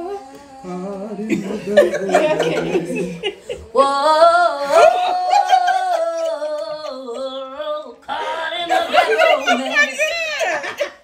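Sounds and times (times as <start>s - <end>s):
additional voices: 0.0s - 10.7s.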